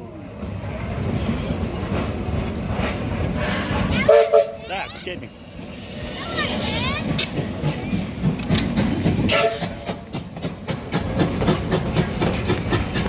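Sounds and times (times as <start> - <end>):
train rolling on track: 0.0 - 13.0
steam locomotive chuffing beats: 0.4 - 13.0.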